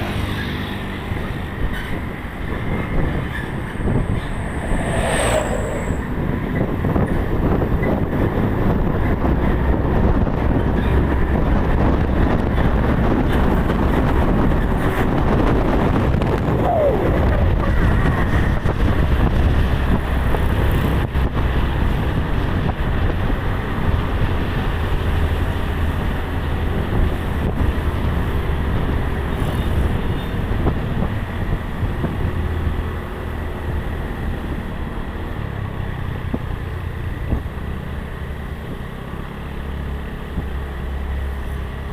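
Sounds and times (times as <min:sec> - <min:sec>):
road and wind noise: 0:00.0 - 0:41.9
truck engine rumble: 0:00.0 - 0:41.9.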